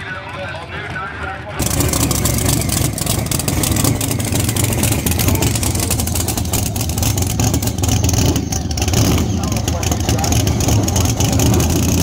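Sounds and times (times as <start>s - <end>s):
race car engines at high revs: 1.6s - 12.0s.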